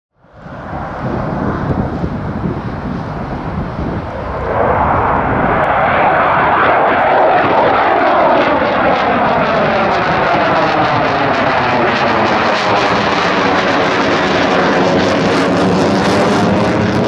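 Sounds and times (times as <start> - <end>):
jet engine roaring overhead: 0.2 - 17.0.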